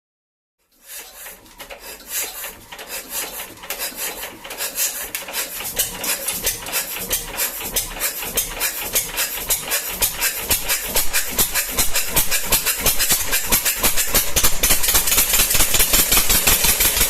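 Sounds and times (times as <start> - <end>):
engine starting and running: 0.8 - 17.0.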